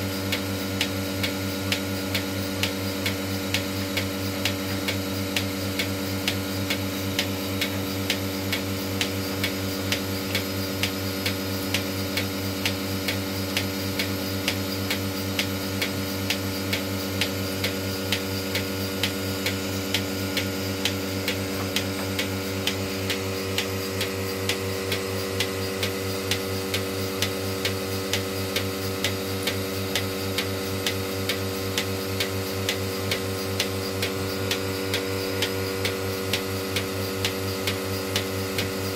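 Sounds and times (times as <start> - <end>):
vacuum pump humming: 0.0 - 38.9.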